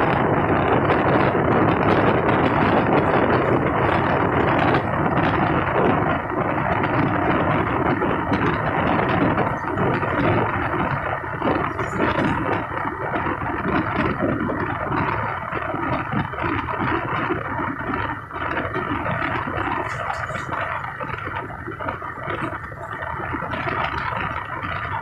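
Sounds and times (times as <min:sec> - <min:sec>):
train wheels running on rails: 0:00.0 - 0:25.0.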